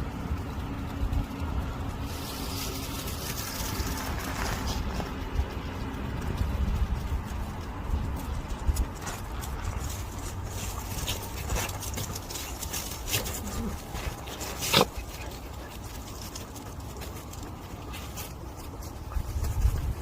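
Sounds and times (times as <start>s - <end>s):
dogs scraping on icy snow: 1.4s - 20.0s.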